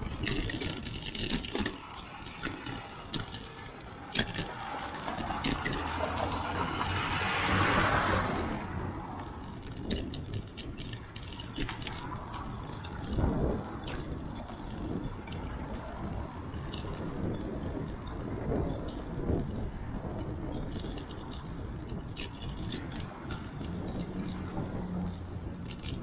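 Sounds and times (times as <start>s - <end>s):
wind on microphone: 0.0s - 3.5s, 4.1s - 26.0s
bicycle tyre rumble: 0.0s - 26.0s
bike clicks and rattles: 0.0s - 26.0s
truck passing: 1.8s - 26.0s.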